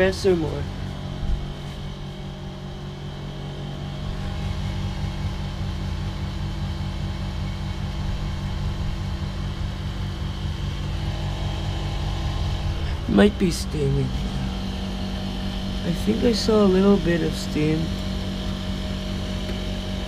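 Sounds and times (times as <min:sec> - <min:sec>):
air conditioner compressor humming: 0:00.0 - 0:20.0.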